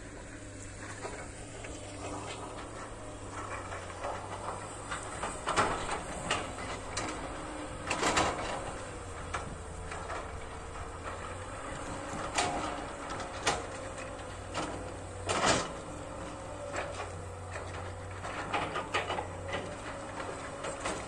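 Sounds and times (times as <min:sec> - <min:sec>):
excavator engine drone: 0:00.0 - 0:21.0
excavator bucket clanks: 0:00.7 - 0:21.0.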